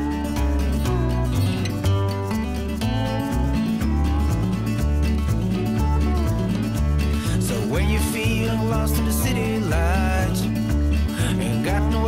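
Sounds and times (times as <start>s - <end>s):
country music with guitar: 0.0s - 12.0s.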